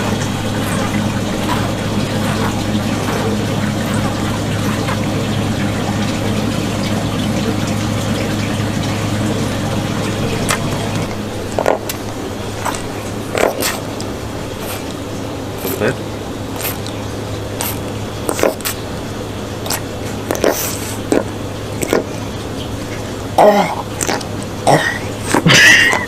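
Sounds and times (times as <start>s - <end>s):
low electrical hum: 0.0s - 26.0s
running water rushing: 0.0s - 26.0s.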